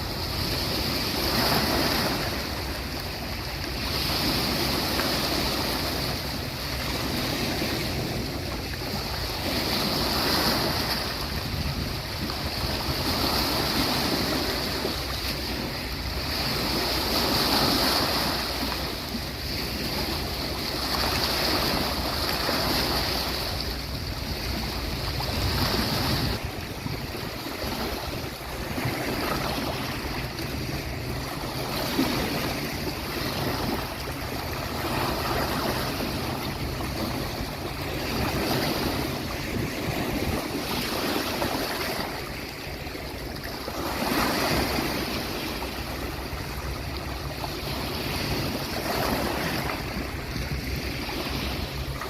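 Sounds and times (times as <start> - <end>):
sea waves washing onto beach: 0.0 - 52.0.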